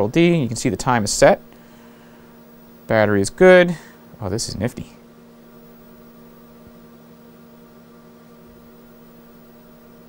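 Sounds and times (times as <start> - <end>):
computer fans humming: 0.0 - 10.0.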